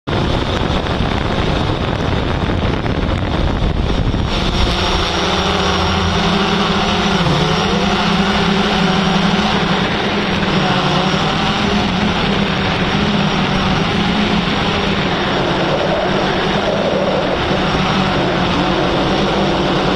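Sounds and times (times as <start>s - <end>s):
steady motor hum: 0.1s - 19.9s
wind on microphone: 0.1s - 19.9s.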